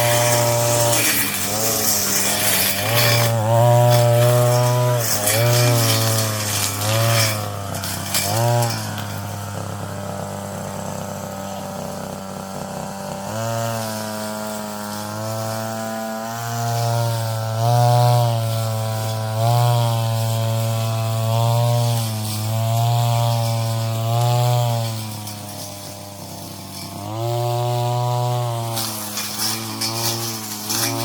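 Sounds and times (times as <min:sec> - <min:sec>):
brush cutter engine revving: 0:00.0 - 0:31.0.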